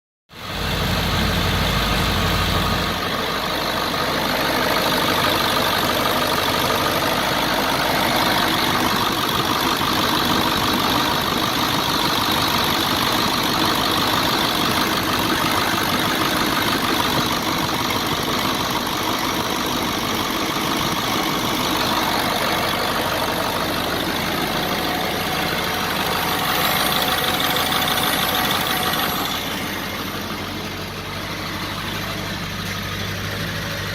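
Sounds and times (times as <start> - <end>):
diesel engine idling: 0.3 - 33.9.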